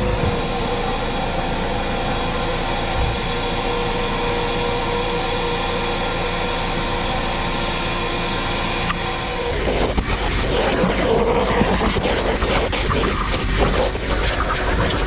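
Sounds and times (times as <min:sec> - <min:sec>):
vacuum cleaner motor: 0:00.0 - 0:15.0
vacuum nozzle scraping carpet: 0:00.0 - 0:15.0.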